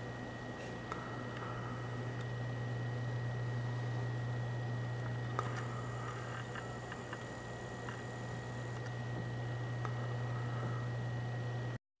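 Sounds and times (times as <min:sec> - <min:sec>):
low hum: 0:00.0 - 0:11.8
thin high whine: 0:00.0 - 0:11.8.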